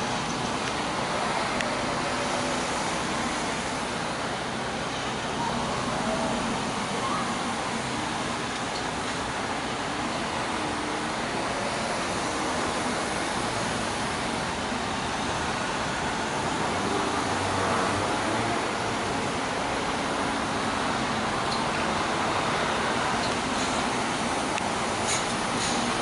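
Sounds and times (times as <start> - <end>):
buses driving past: 0.0 - 26.0.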